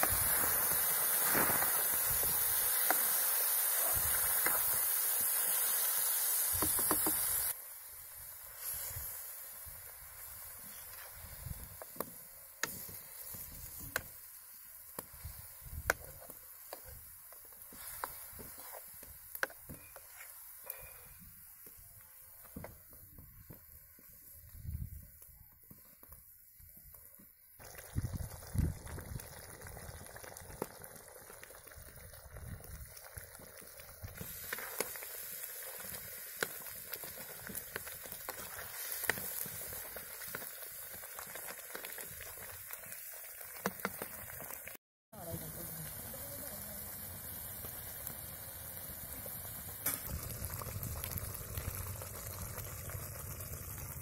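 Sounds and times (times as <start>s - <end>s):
paste bubbling and sizzling: 0.0s - 54.0s.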